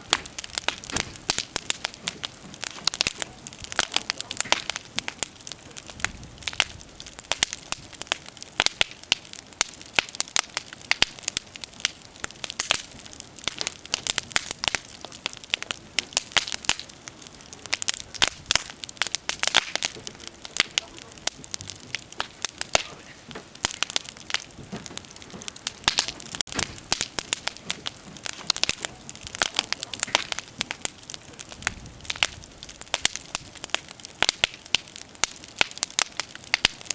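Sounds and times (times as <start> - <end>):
bonfire crackling and popping: 0.0 - 36.9
hiss of burning: 0.0 - 36.9.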